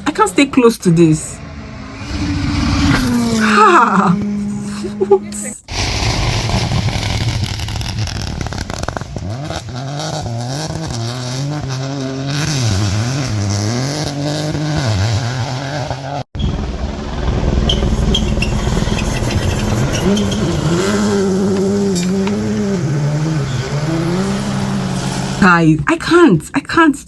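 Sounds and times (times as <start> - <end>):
car engine revving: 0.0 - 26.2
rally car engine at full throttle: 1.0 - 25.6.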